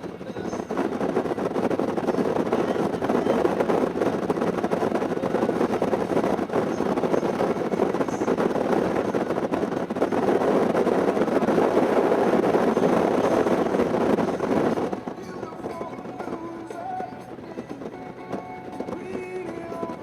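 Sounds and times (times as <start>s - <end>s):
motorcycle road and engine noise: 0.0s - 20.0s
wind roaring over microphone: 0.0s - 20.0s.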